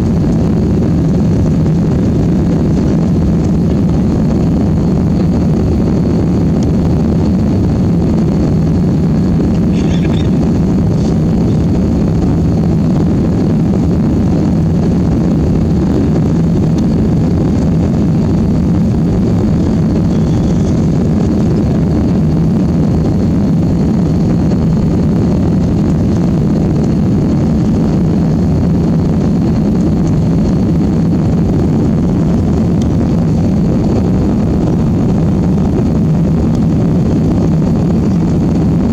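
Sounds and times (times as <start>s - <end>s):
jet engine rumble: 0.0s - 38.9s.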